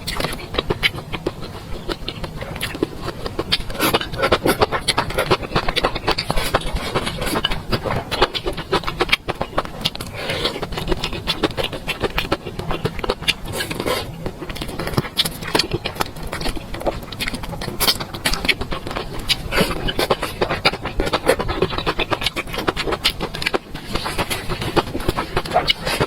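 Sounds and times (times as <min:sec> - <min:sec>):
person chewing and smacking food: 0:00.0 - 0:26.0.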